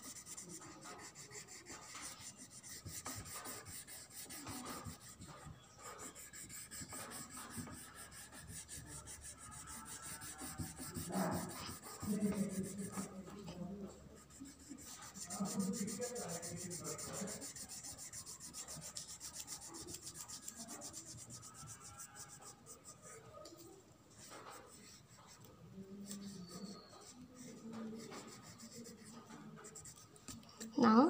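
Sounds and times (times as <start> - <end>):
wax crayon rubbing on paper: 0.0 - 30.3.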